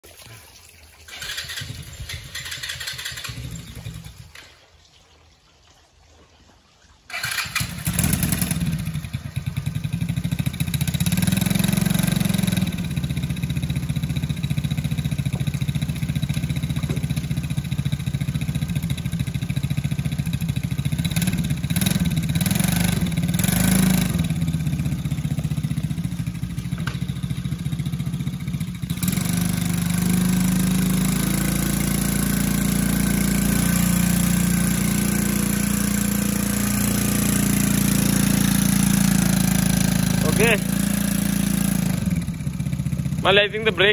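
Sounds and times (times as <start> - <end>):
quad bike engine revving: 1.1 - 4.6, 7.1 - 43.9.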